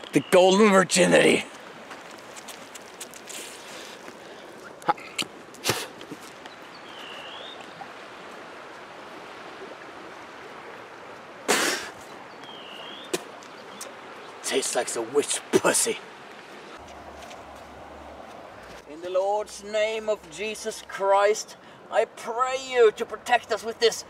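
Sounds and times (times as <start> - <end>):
river flowing: 0.0 - 24.0.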